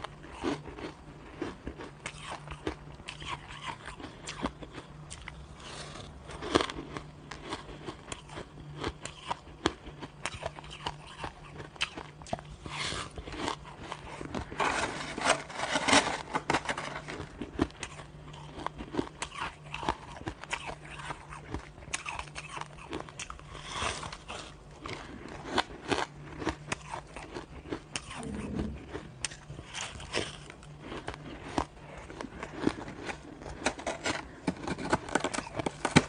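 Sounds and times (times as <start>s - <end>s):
ice crunching while chewed: 0.0s - 36.0s.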